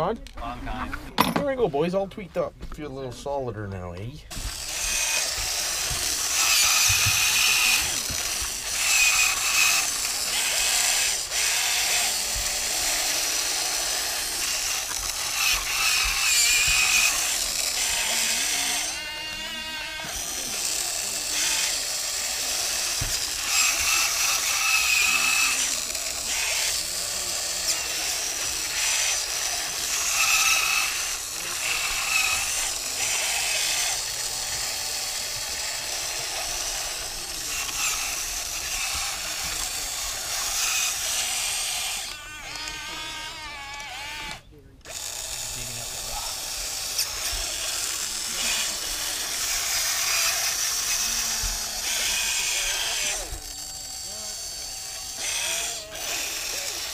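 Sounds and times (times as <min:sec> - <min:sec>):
electric motors whining: 0:04.2 - 0:56.9.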